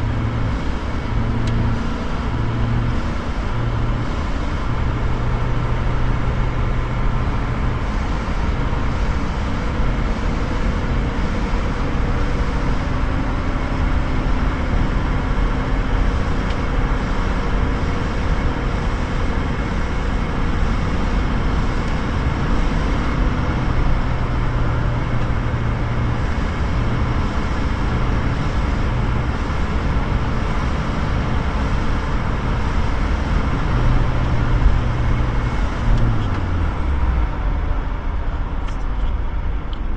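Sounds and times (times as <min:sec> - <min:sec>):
diesel engine running with hum: 0:00.0 - 0:39.9.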